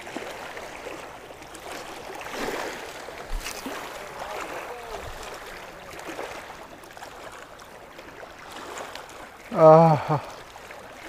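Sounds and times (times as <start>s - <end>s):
waves lapping on rocks: 0.0s - 11.0s.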